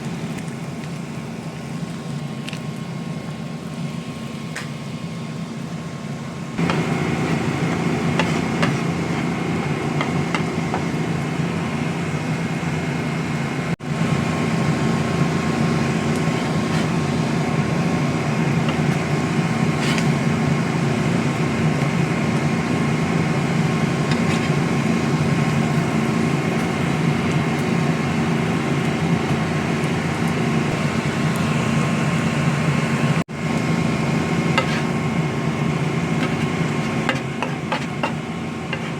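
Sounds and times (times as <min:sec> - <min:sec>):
mechanical hum with high whine: 0:00.0 - 0:38.9.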